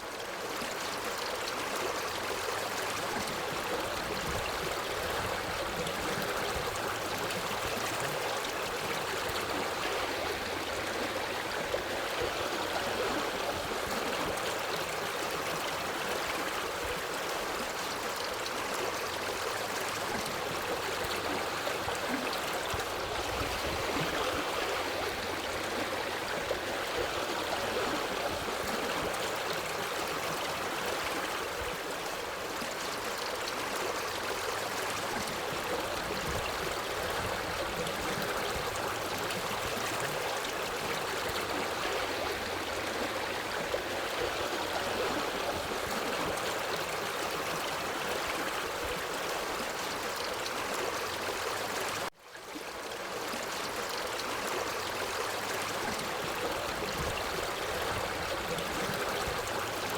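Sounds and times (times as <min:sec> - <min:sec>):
water stream flowing: 0:00.0 - 0:59.9.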